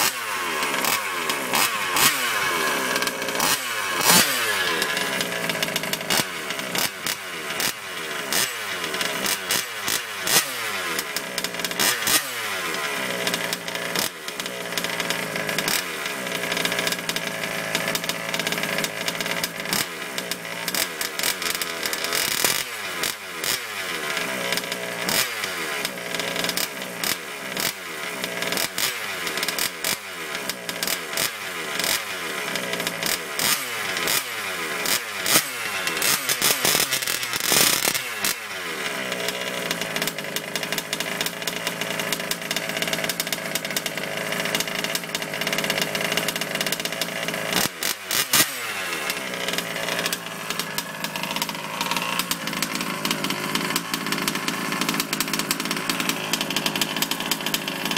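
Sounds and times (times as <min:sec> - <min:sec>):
small petrol engine revving: 0:00.0 - 0:57.9.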